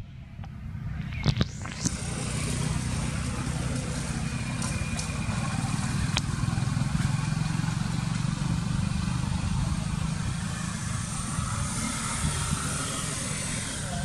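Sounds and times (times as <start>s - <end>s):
engine idling: 0.1s - 14.0s.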